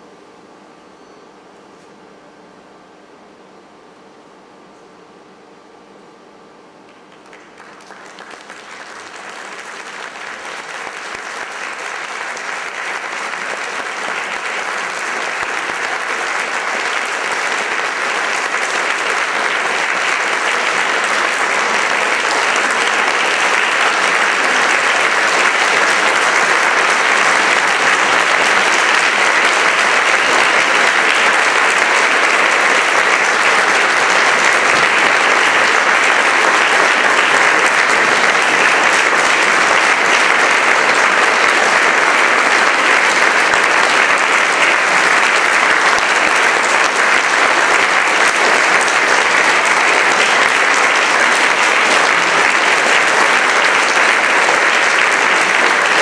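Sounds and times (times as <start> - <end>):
audience applause: 6.8 - 56.0.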